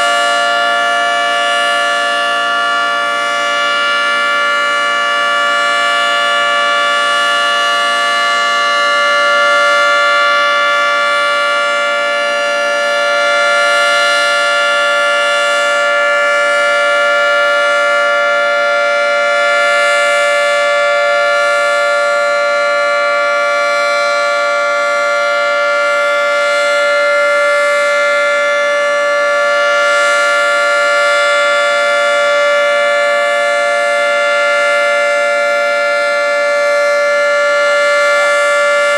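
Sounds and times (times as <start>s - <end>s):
tornado siren steady chord: 0.0s - 38.9s.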